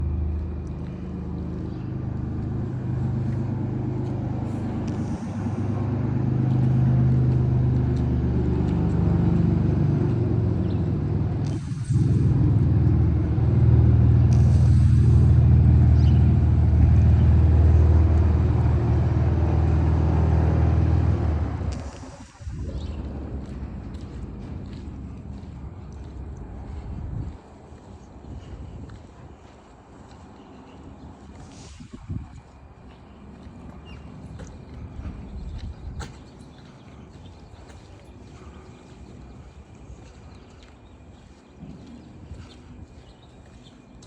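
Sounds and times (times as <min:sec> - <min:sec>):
propeller plane engine drone: 0:00.0 - 0:44.0.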